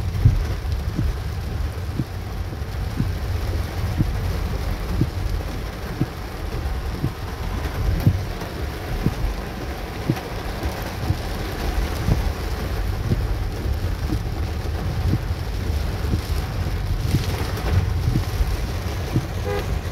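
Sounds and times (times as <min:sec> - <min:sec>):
heavy rain on car roof: 0:00.0 - 0:19.9
low road rumble: 0:00.0 - 0:19.9.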